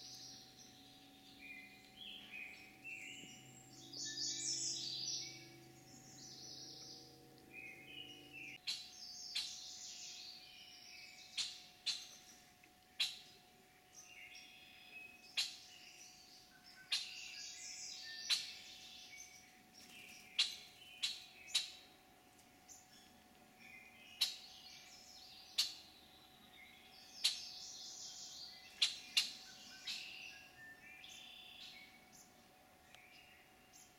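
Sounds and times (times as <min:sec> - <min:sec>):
faint steady hum: 0:00.0 - 0:33.9
songbirds chirping and singing: 0:00.0 - 0:33.9.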